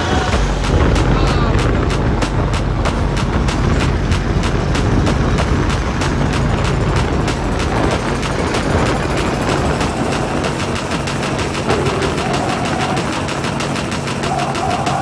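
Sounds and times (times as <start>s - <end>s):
motorcycle engine running hard: 0.0s - 15.0s
wind rushing over microphone: 0.0s - 15.0s.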